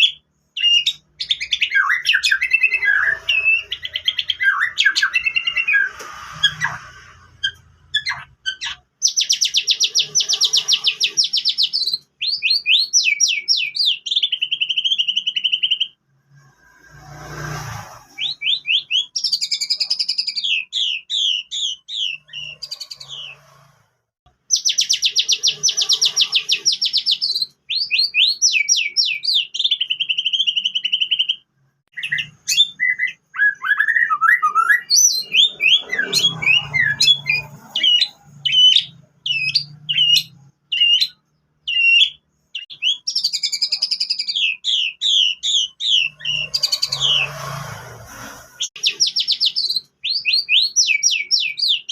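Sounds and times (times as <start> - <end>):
bird singing whistled phrases and trills: 0.0 - 16.0, 18.2 - 23.4, 24.5 - 47.3, 48.8 - 51.9.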